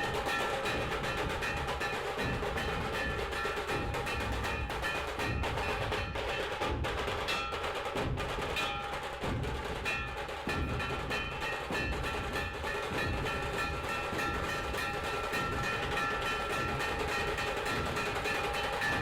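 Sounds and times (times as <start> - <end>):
held bell-like tones: 0.0 - 6.6, 9.8 - 19.0
wood-block percussion beat: 0.0 - 19.0.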